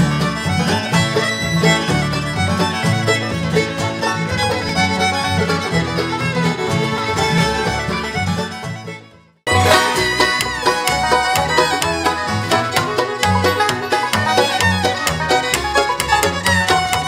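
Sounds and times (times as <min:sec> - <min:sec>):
acoustic bluegrass band playing: 0:00.0 - 0:17.0.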